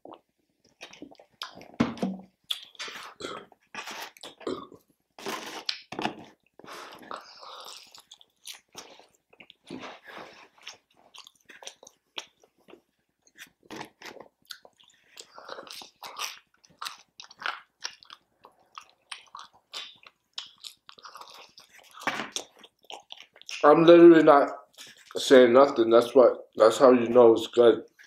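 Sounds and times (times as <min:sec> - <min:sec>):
person chewing food: 0:00.0 - 0:23.6, 0:24.7 - 0:25.2.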